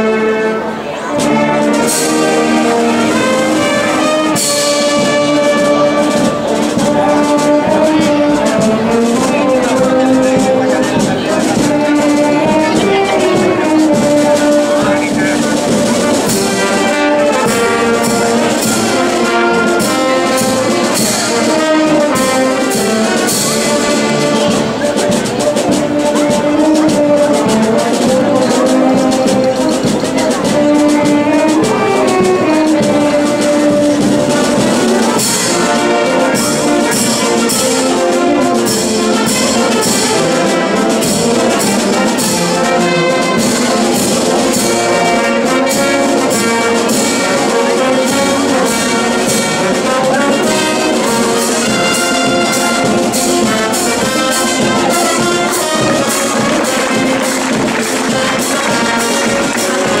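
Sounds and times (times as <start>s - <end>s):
brass band playing: 0.0s - 60.0s
steady percussion beat: 1.1s - 60.0s.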